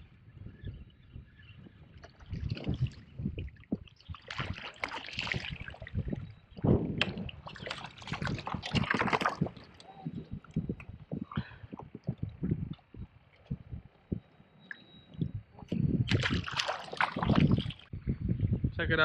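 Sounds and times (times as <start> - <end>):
water splashing against kayak: 2.0 - 17.9.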